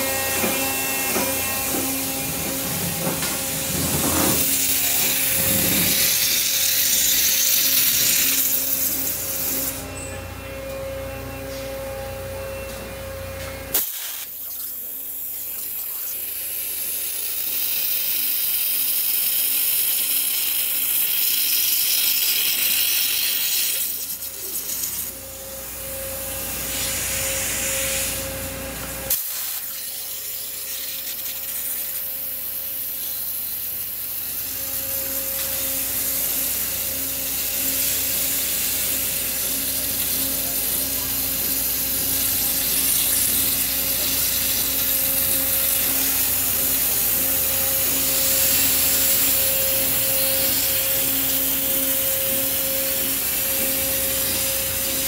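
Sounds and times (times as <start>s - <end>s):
waterjet cutter hissing: 0.0s - 11.9s, 13.0s - 55.0s
low machine hum: 0.0s - 17.9s, 20.2s - 29.1s, 29.8s - 55.0s.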